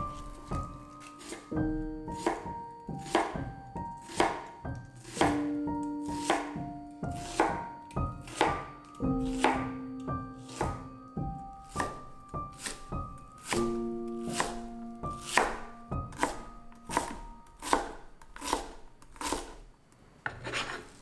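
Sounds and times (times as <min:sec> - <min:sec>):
knife chopping on cutting board: 0:00.0 - 0:10.9, 0:11.6 - 0:19.6
background music with held notes: 0:00.0 - 0:17.4.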